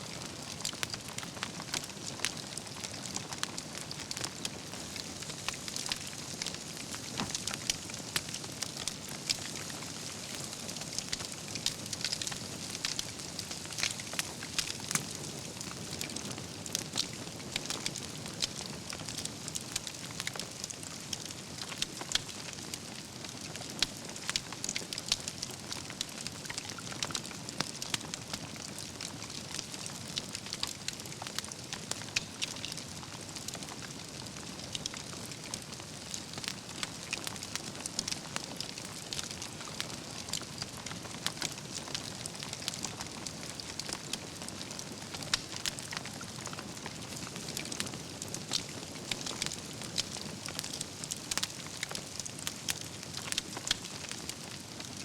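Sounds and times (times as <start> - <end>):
logs crackling and popping: 0.0 - 55.0
rush of campfire flames: 0.0 - 55.0.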